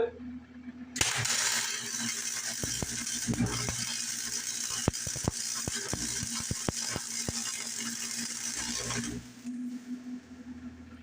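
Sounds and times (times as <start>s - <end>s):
welding arc crackling and hissing: 1.0s - 9.8s.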